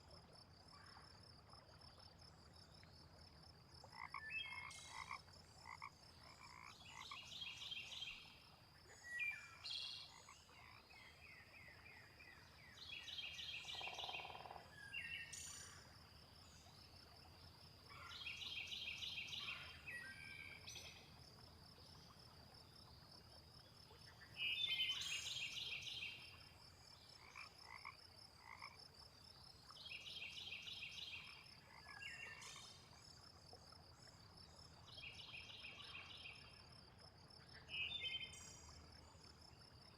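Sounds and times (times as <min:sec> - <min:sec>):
frogs croaking: 0:03.2 - 0:39.9.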